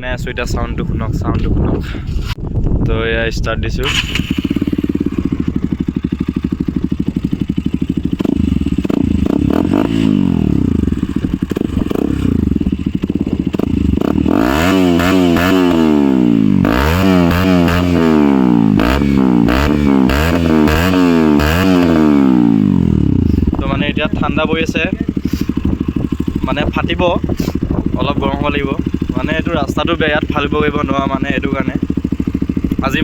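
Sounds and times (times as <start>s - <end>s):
motorcycle idling and revving: 3.8s - 33.0s.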